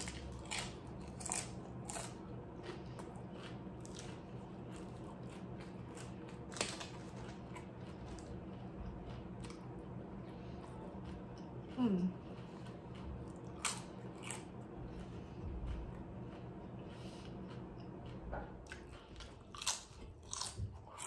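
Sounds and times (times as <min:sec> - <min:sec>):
chips crunching while chewing: 0:00.0 - 0:10.0, 0:12.6 - 0:14.6, 0:15.7 - 0:21.0.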